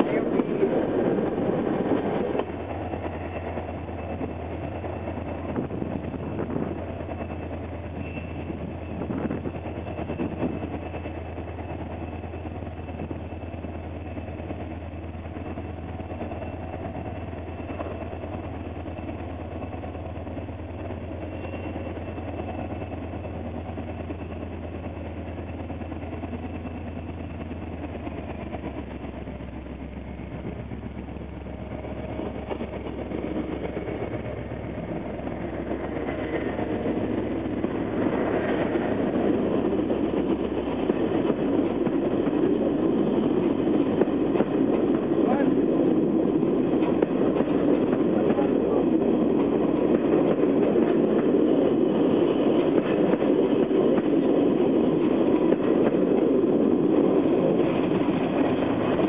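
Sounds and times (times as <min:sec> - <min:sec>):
diesel locomotive engine drone: 0:00.0 - 0:59.0
train carriage rumbling past: 0:00.0 - 0:59.0.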